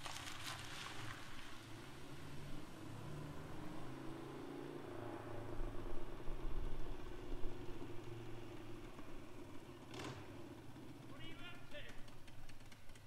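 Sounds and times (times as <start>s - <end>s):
car driving away: 0.0s - 11.2s
distant motorcycle engine: 0.1s - 13.0s.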